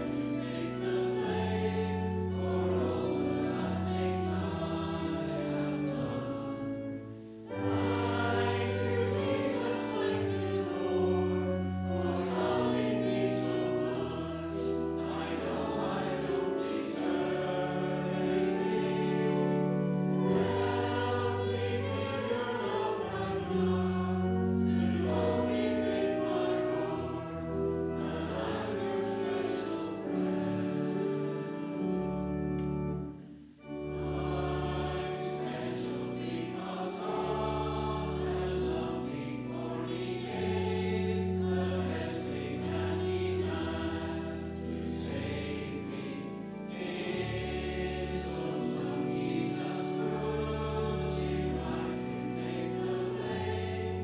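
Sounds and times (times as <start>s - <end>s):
congregation singing a hymn: 0.0s - 54.0s
instrumental accompaniment chords: 0.0s - 54.0s.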